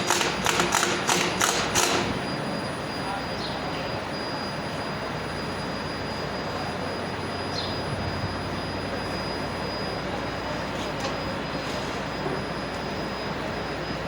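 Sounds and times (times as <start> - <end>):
mechanical running noise: 0.0 - 11.4
thin high whine: 2.0 - 14.0.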